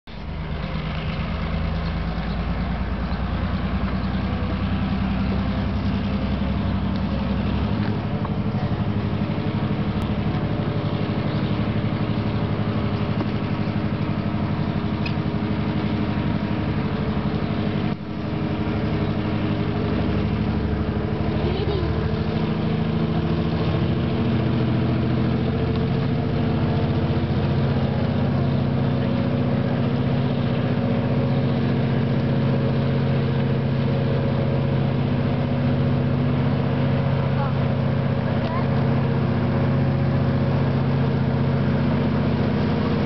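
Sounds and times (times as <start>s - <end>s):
engine running with low throb: 0.0s - 43.0s.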